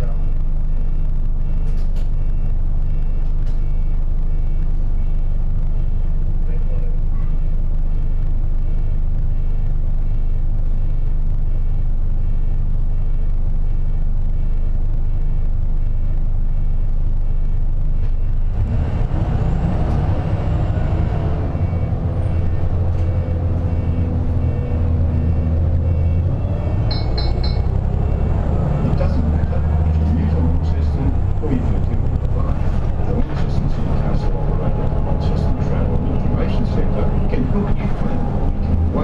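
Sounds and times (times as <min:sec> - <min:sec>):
bus engine idling and revving: 0:00.0 - 0:39.0.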